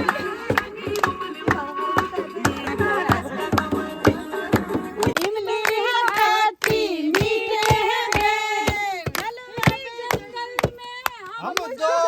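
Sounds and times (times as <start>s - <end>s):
hand clapping: 0.0s - 11.8s
people singing together: 0.0s - 12.0s.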